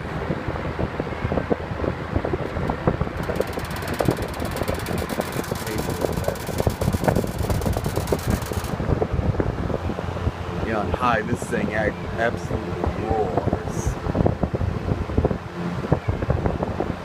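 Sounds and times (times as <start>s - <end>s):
box fan roaring: 0.0s - 17.0s
fan grille rattling: 1.4s - 17.0s.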